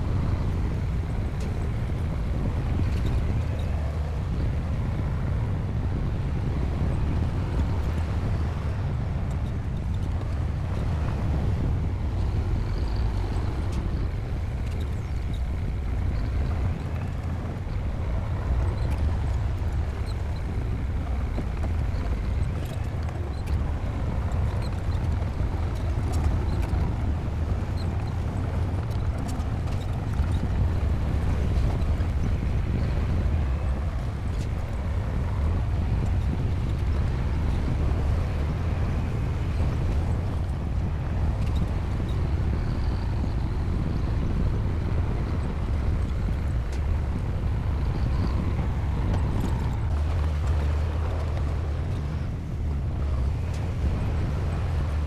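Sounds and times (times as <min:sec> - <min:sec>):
diesel engine low rumble: 0:00.0 - 0:55.0.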